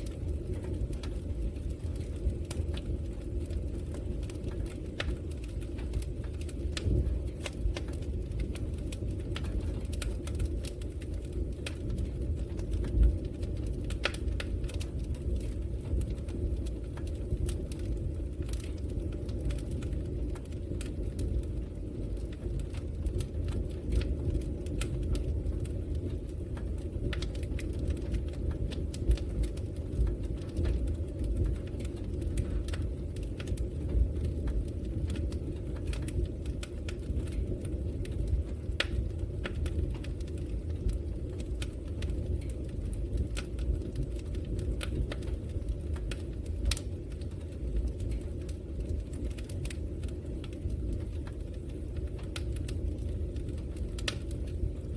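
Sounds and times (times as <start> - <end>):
burning wood crackling and popping: 0.0 - 54.9
flames rumbling: 0.0 - 54.9.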